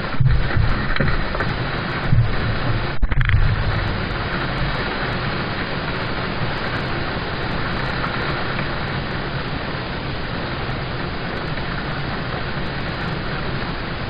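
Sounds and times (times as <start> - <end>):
rain on car roof: 0.0 - 14.0.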